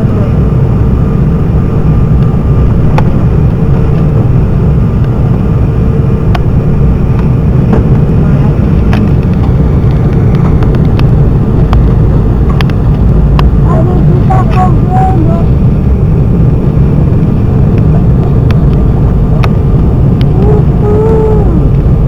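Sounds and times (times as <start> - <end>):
airliner cabin rumble: 0.0 - 22.0
steady hum: 0.0 - 22.0.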